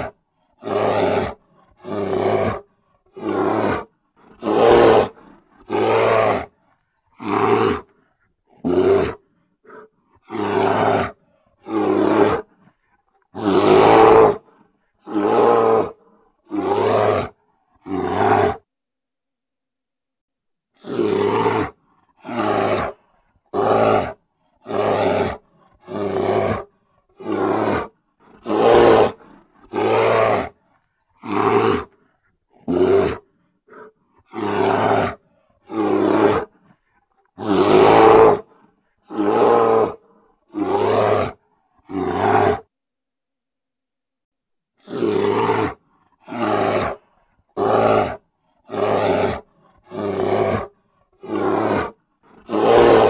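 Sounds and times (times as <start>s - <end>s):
grizzly bear roaring: 0.0s - 18.7s, 20.8s - 42.7s, 44.8s - 53.0s.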